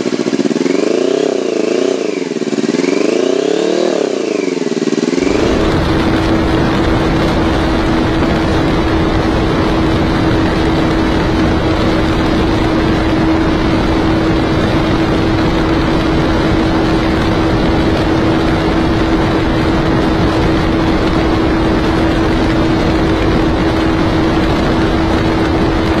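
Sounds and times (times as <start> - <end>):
motorcycle engine at high revs: 0.0 - 26.0
wind rushing: 5.1 - 26.0.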